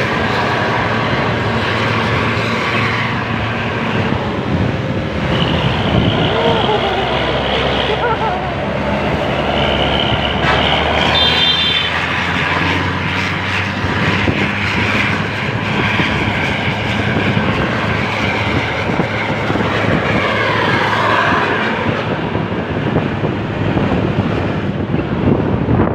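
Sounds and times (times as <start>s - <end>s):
road and wind noise: 0.0s - 25.9s
vehicle engine hum: 0.0s - 25.9s.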